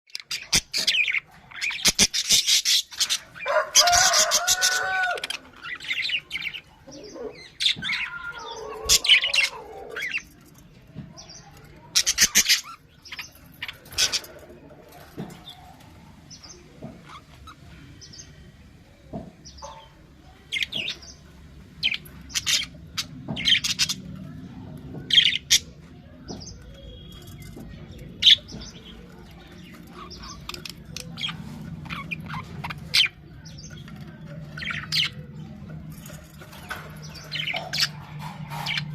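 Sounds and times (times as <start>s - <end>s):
budgerigars chirping and chattering: 0.1s - 38.9s.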